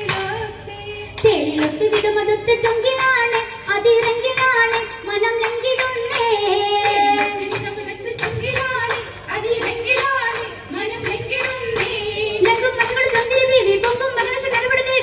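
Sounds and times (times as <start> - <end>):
song sung through a microphone: 0.0 - 15.0
sharp hand claps: 1.2 - 14.7.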